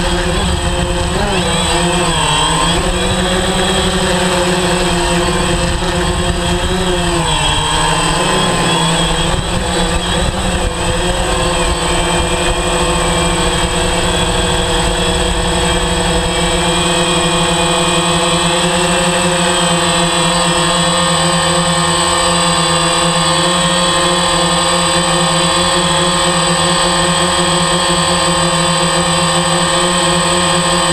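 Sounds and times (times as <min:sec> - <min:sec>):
drone motors buzzing whine: 0:00.0 - 0:30.9.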